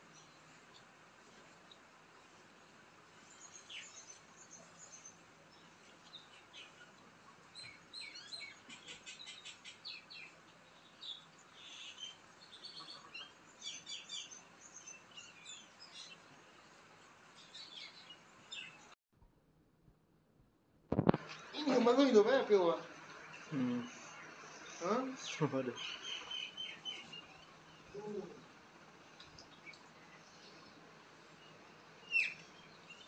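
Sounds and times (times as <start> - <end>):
low background hiss: 0.0 - 19.0, 19.8 - 33.0
small birds chirping: 0.0 - 19.0, 21.2 - 33.0.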